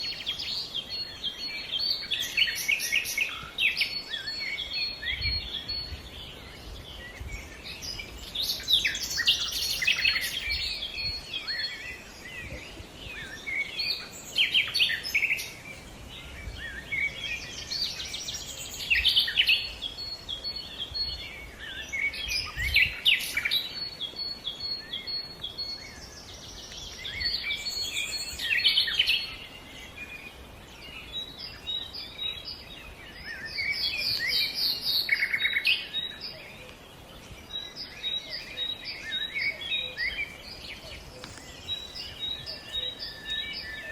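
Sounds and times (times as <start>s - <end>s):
forest birds chorus: 0.0s - 43.9s.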